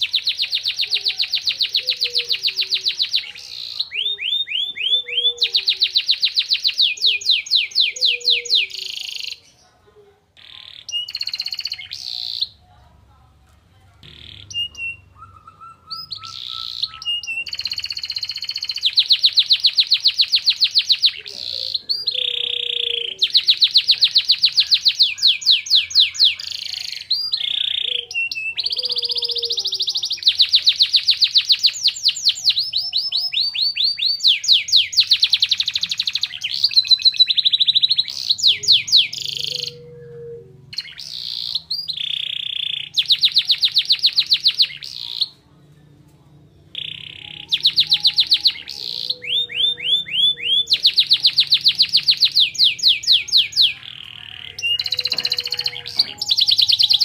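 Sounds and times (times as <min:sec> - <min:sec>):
canary singing trills: 0:00.0 - 0:12.7, 0:14.0 - 0:57.0.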